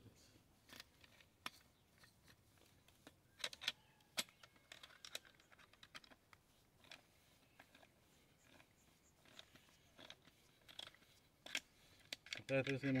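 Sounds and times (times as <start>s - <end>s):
light clicks and taps of tools: 0.7s - 13.0s.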